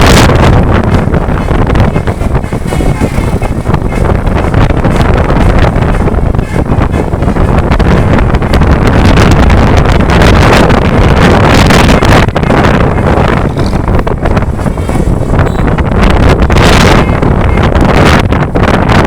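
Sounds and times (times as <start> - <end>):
vehicle and road noise: 0.0 - 19.0
wind buffeting microphone: 0.0 - 19.0.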